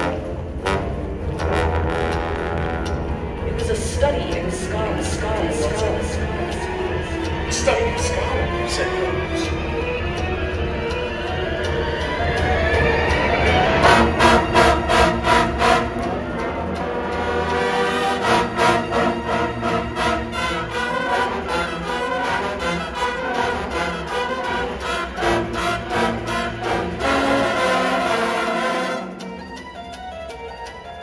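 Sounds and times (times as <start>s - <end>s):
brass ensemble with percussion: 0.0s - 31.0s.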